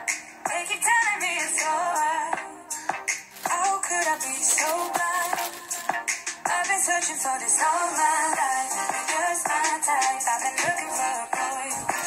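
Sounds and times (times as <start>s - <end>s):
pop song with vocals: 0.0s - 12.0s.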